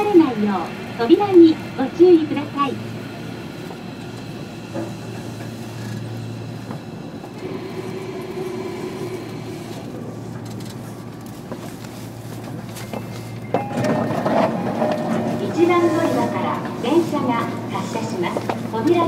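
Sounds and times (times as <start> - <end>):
electric train inverter tones: 0.0 - 19.0
train interior hum: 0.0 - 19.0
train rail noise: 0.0 - 19.0.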